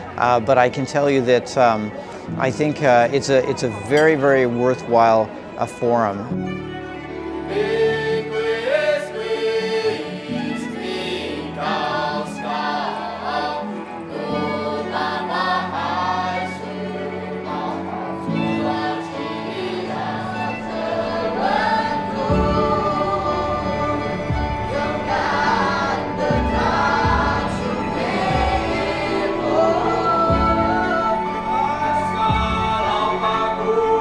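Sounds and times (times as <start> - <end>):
choir singing in harmony: 0.0 - 5.6, 6.3 - 34.0.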